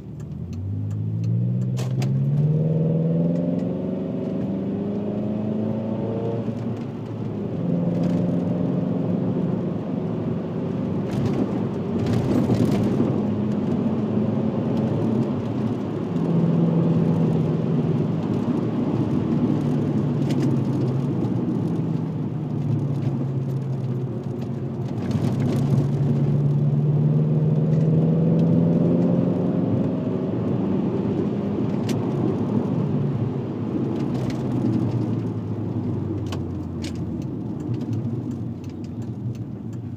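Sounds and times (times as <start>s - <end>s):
car engine accelerating: 0.0s - 39.9s
tyre and road noise: 0.0s - 39.9s.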